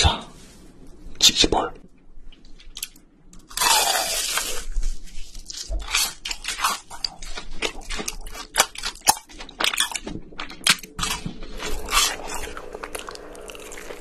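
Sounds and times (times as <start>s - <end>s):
crunchy chewing of fried food: 2.7s - 14.0s.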